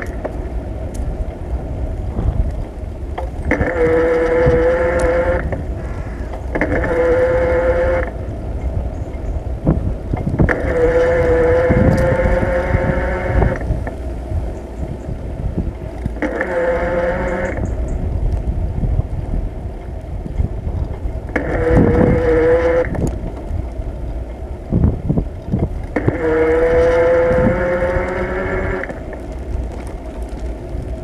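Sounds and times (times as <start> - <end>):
bicycle road rumble: 0.0 - 31.0
steady pitched whine: 0.0 - 31.0
wind buffeting microphone: 0.0 - 31.0.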